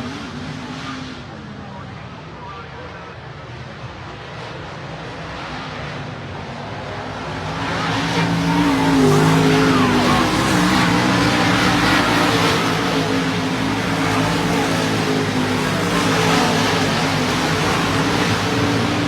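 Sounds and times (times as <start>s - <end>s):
race car engines at speed: 0.0s - 19.0s.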